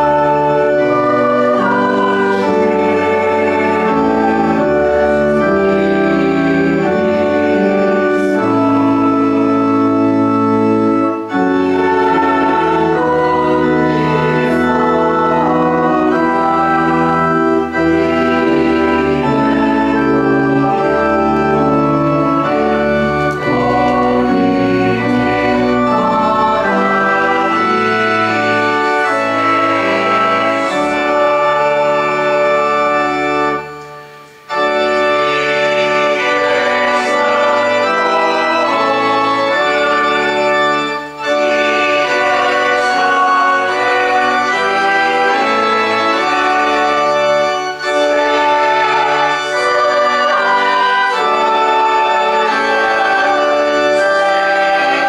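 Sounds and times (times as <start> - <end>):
church organ playing a hymn: 0.0 - 55.0.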